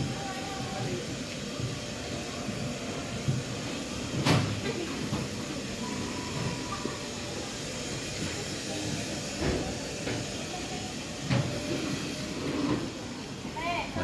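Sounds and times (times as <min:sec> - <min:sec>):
market alley background noise: 0:00.0 - 0:14.0.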